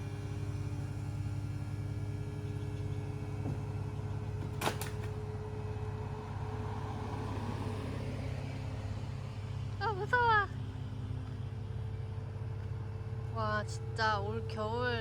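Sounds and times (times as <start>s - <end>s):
vehicle engine pulsing hum: 0.0s - 15.0s.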